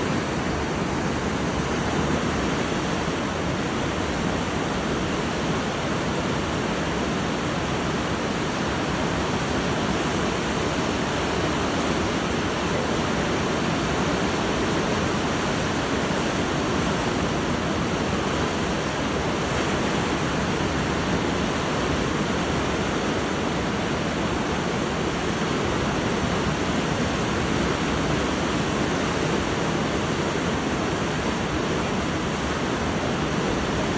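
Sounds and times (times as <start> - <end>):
river rushing through rapids: 0.0 - 33.9.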